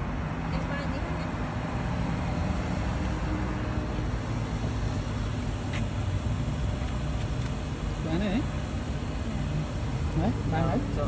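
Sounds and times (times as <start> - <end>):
vehicle rumble and hum: 0.0 - 11.0.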